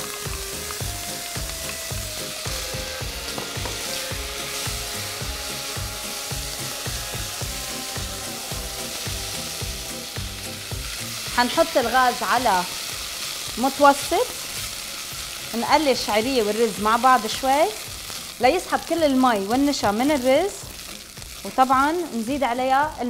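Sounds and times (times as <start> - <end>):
background music with steady beat: 0.0 - 23.0
rice sizzling in hot oil: 0.0 - 23.0.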